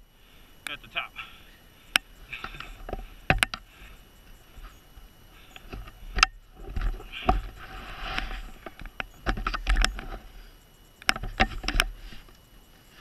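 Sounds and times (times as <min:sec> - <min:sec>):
rustling: 0:01.5 - 0:13.0.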